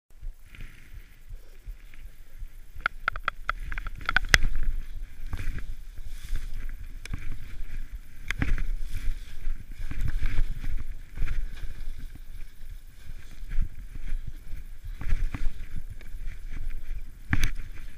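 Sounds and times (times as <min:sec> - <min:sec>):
wind buffeting microphone: 0:00.1 - 0:17.9
skis swishing through powder snow: 0:00.3 - 0:02.8, 0:04.4 - 0:17.9.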